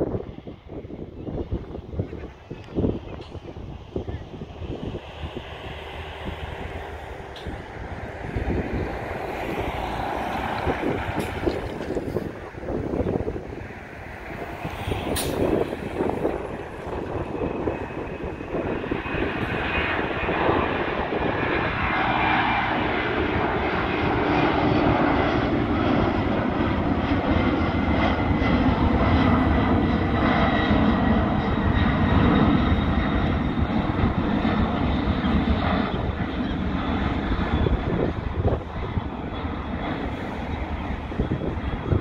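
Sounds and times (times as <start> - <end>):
jet engine roar: 0.0 - 42.0.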